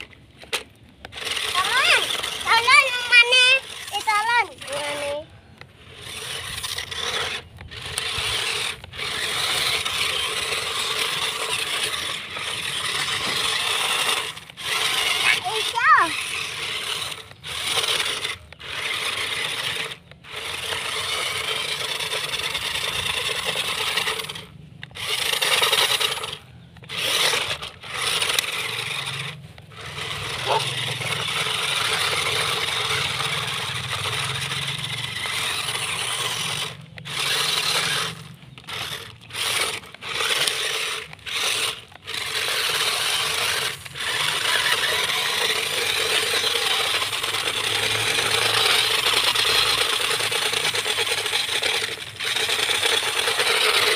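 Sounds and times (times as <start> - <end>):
toy car motors whirring: 0.0 - 53.9
wheels spinning on gravel: 0.0 - 53.9.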